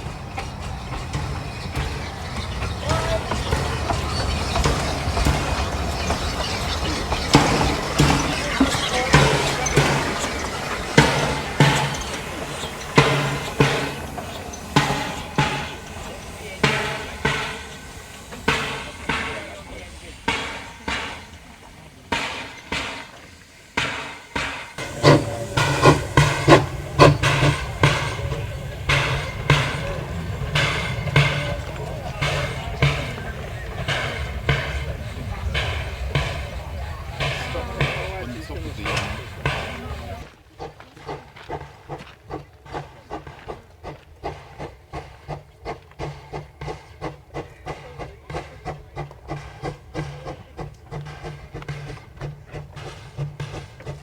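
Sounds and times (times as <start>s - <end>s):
steam locomotive exhaust beats: 0.0s - 54.0s.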